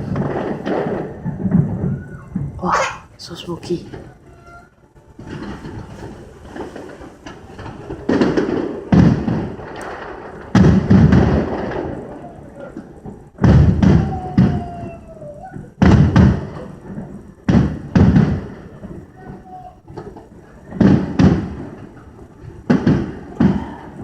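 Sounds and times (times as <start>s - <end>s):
firework shells booming: 0.0s - 4.3s, 5.0s - 24.0s.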